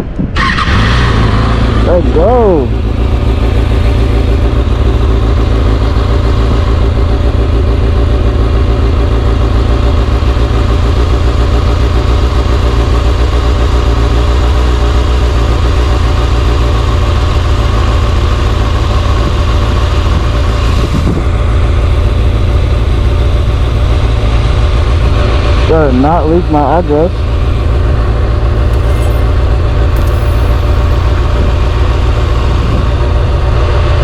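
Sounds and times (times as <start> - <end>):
low road rumble: 0.0 - 34.0
vehicle engine hum: 0.0 - 34.0.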